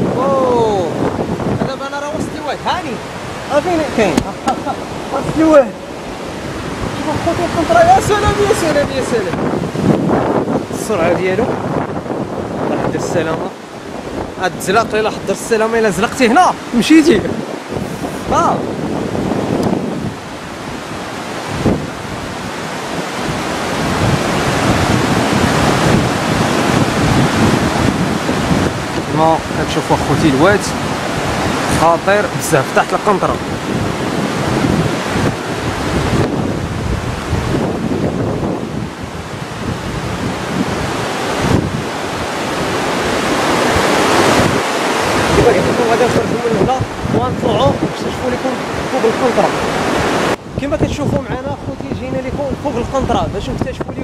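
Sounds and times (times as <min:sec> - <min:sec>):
floodwater rushing: 0:00.0 - 0:54.0
wind buffeting microphone: 0:00.0 - 0:54.0.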